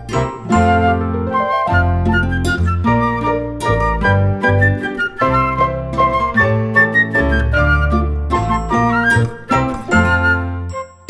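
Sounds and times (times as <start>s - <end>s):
flute-like melody: 0.0s - 11.0s.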